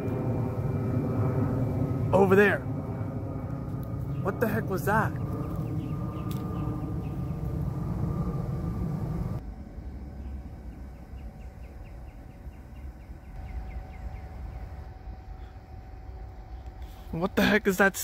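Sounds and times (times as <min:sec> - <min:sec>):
motor-like hum: 0:00.0 - 0:18.0.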